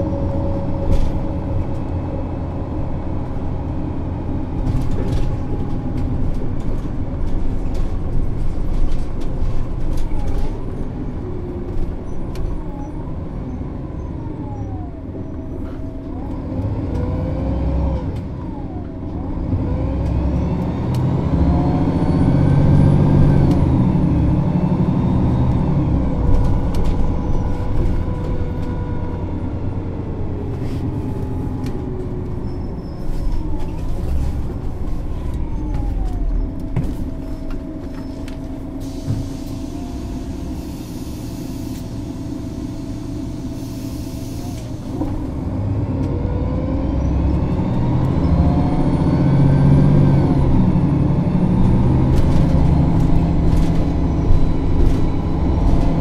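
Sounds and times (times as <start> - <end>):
bus diesel engine idling: 0.0 - 16.5, 20.4 - 56.0.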